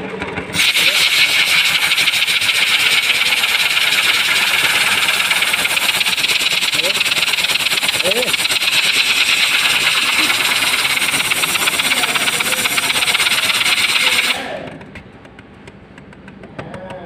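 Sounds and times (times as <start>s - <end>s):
bearing spinning with whir and ticking: 0.0s - 16.7s
compressed air gun hissing: 0.6s - 14.5s.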